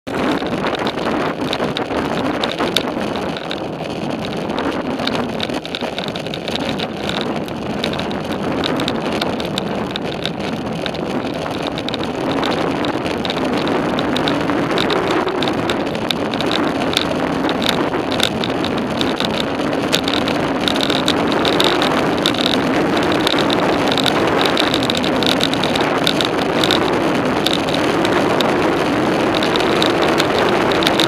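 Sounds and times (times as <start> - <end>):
bicycle tyre noise: 0.1 - 31.0
bike clicks and rattles: 0.1 - 31.0
wind rushing over microphone: 0.1 - 31.0.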